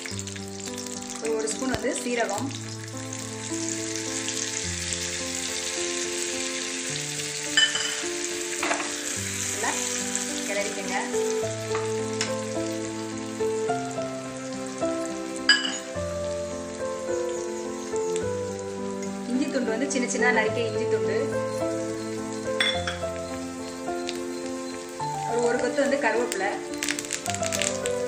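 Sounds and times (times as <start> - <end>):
background music: 0.0 - 28.0
ghee sizzling in a pan: 0.0 - 28.0.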